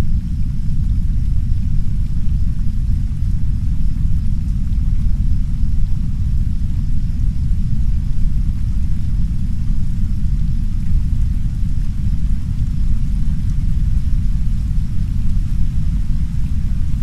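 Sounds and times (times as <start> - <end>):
deep brown noise rumble: 0.0 - 17.0
rain against a window: 2.5 - 17.0.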